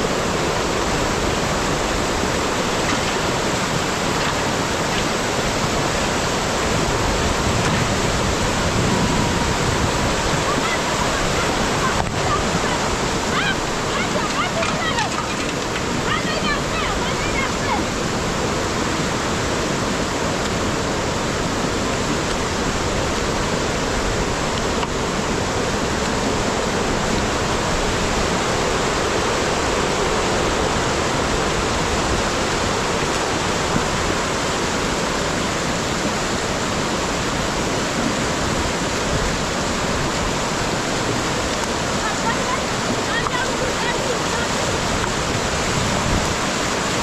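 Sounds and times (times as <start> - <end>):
rushing floodwater: 0.0 - 47.0.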